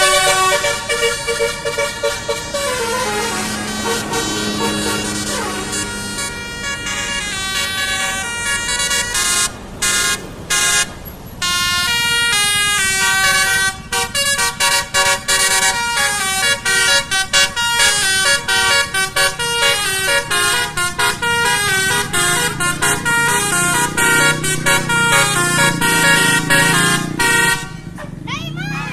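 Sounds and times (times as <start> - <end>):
multi-note musical air horn: 0.0 - 9.5, 11.4 - 27.8.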